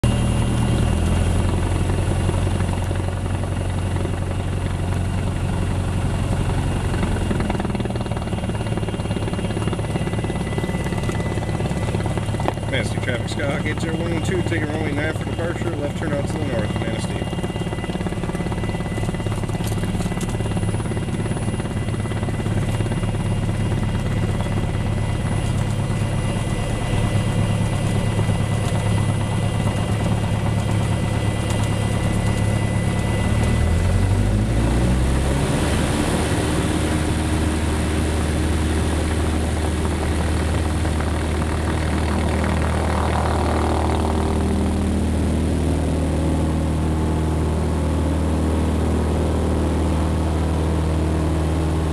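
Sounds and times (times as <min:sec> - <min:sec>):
propeller plane engine in cabin: 0:00.0 - 0:51.9.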